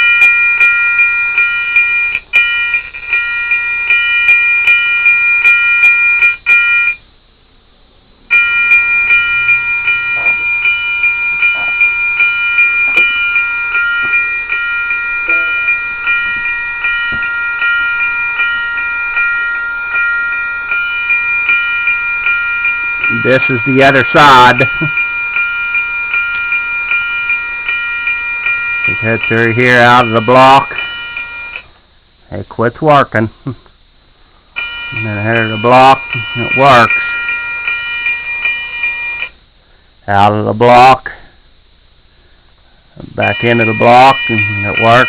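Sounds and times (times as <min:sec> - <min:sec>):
crossing signal bell dinging: 0:00.0 - 0:07.1, 0:08.3 - 0:31.7, 0:34.6 - 0:39.4, 0:43.2 - 0:45.0.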